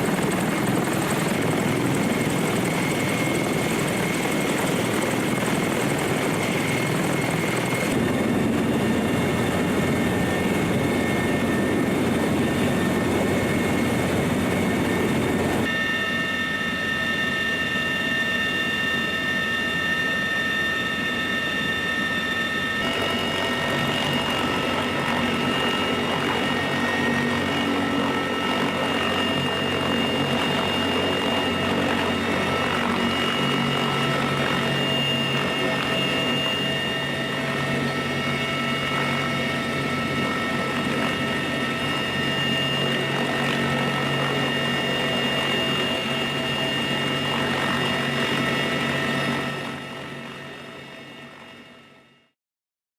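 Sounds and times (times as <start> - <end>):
helicopter rotor and turbine whine: 0.0 - 52.4.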